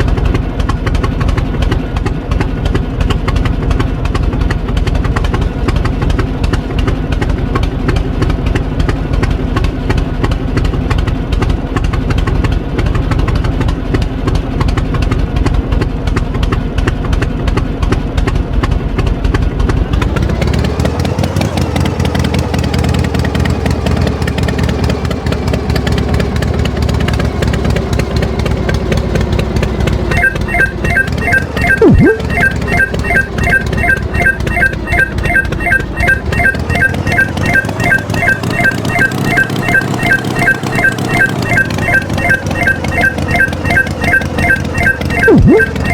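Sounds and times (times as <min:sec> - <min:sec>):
tractor engine idling and revving: 0:00.0 - 0:45.9.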